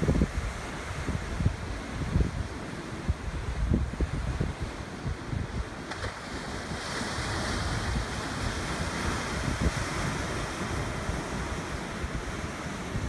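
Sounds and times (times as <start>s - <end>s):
heavy surf breaking: 0.0s - 13.0s
wind buffeting microphone: 0.0s - 13.0s.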